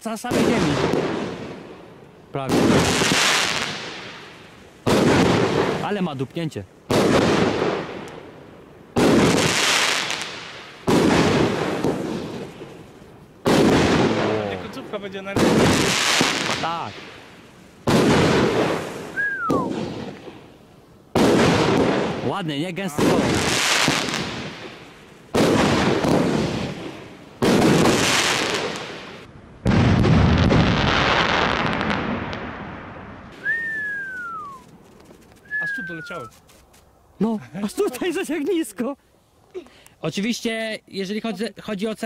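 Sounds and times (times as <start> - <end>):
firework bangs: 0.2 - 34.8.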